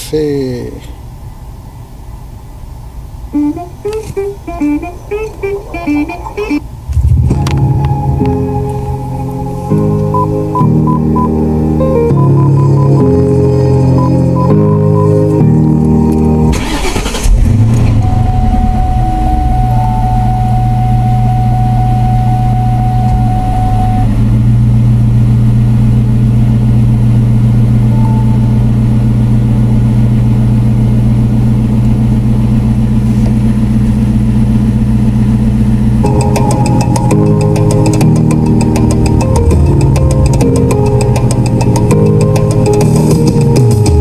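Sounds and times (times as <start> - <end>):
car engine starting and idling: 0.0 - 44.0.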